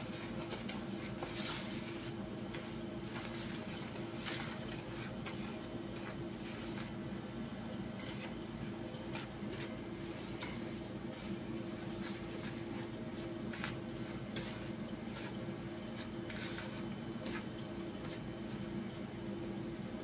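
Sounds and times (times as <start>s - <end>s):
hand scrunching flour mixture: 0.0s - 7.0s, 8.0s - 18.8s
steady low hum: 0.0s - 20.0s.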